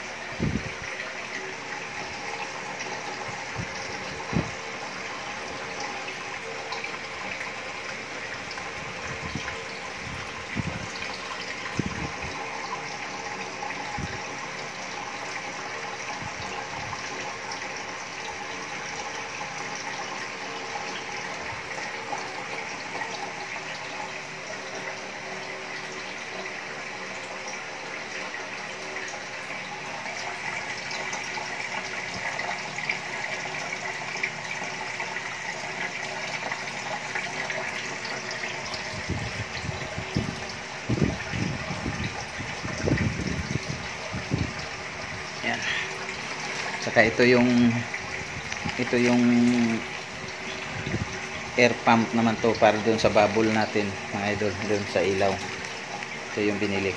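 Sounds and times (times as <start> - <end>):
faint pump hum: 0.0 - 56.9
water splashing into aquarium: 0.0 - 56.9.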